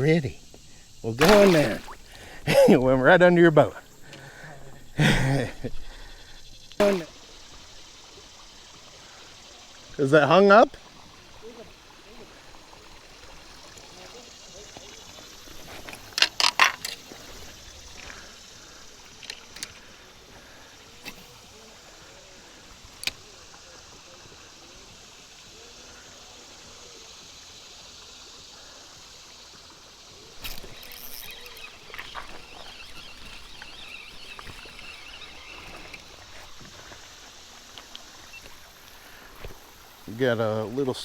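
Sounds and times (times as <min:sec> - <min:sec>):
water splashing against hull: 0:00.0 - 0:26.0, 0:30.2 - 0:41.0
river water washing: 0:00.0 - 0:41.0.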